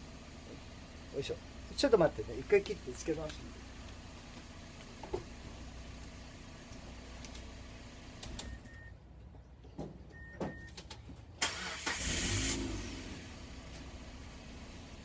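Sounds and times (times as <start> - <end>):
car engine idling: 0.0 - 9.4, 11.3 - 15.0.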